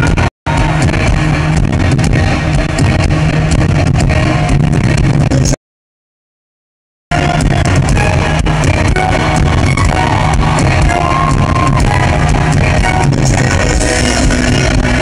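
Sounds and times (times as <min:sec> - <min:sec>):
loud live concert music: 0:00.0 - 0:05.6, 0:07.1 - 0:15.0.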